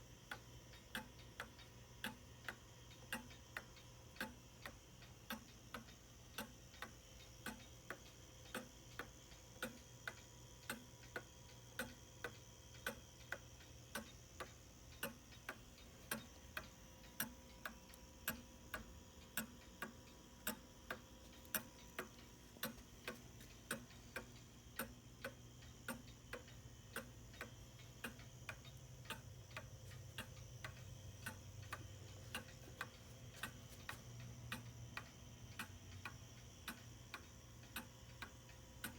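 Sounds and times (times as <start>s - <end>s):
clock pendulum ticking: 0.0s - 38.9s.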